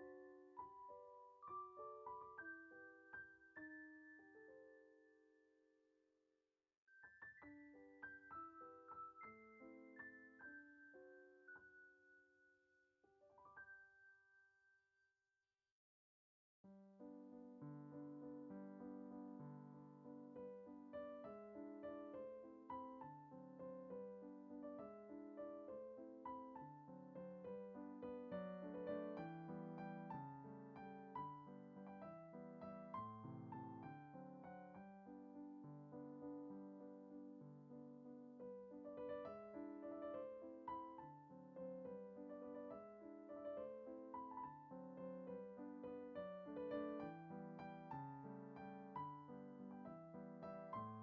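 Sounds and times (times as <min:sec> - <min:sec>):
soft piano music: 0:00.0 - 0:05.5, 0:06.9 - 0:14.4, 0:16.7 - 0:51.0.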